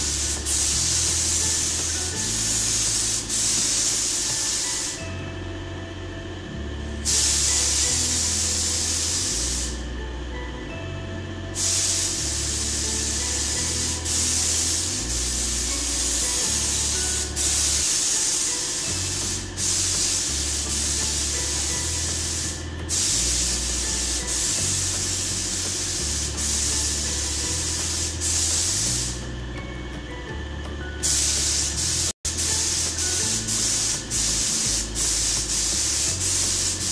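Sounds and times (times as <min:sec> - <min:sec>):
paint spray gun hissing: 0:00.0 - 0:05.1, 0:07.0 - 0:09.9, 0:11.6 - 0:29.4, 0:31.0 - 0:36.9.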